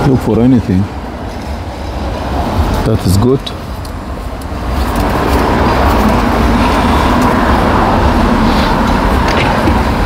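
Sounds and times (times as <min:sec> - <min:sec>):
vehicle rumbling: 0:00.0 - 0:10.0.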